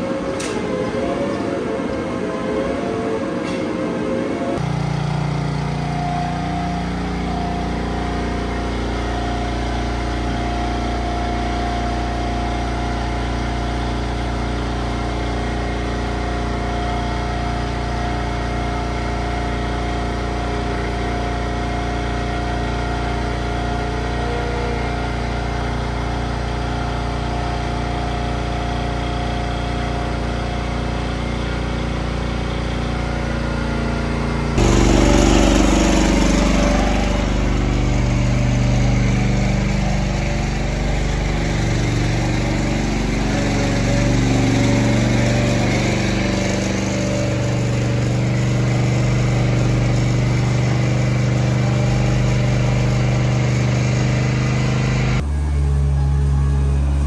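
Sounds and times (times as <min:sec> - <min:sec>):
pump motor humming: 0:04.6 - 0:57.0
rough engine drone with hiss: 0:04.6 - 0:57.0.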